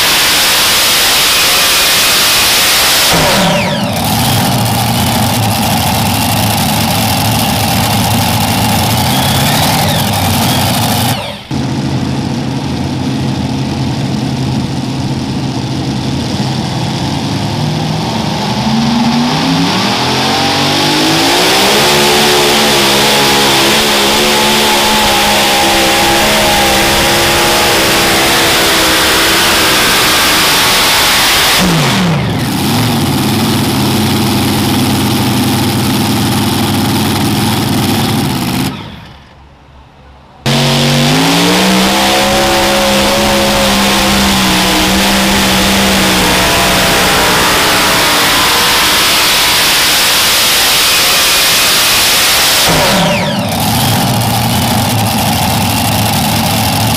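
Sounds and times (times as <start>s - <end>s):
tractor engines idling and revving: 0.0s - 56.9s.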